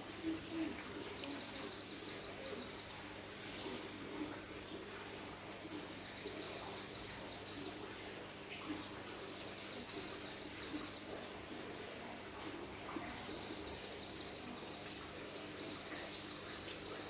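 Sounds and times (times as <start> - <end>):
faint birds chirping: 0.0 - 4.8, 5.6 - 17.0.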